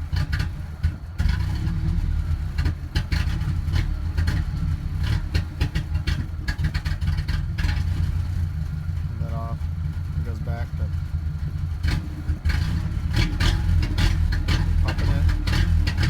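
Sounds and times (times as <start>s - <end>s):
engine idling roughly: 0.0s - 16.0s
engine pops: 0.0s - 16.0s.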